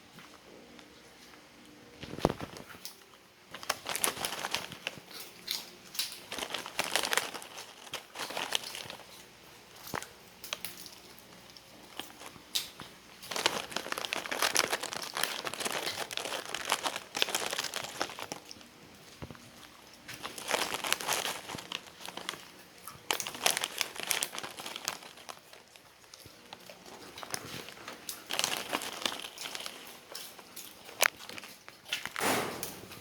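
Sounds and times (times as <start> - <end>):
plastic wrapper crinkling: 2.0 - 32.2.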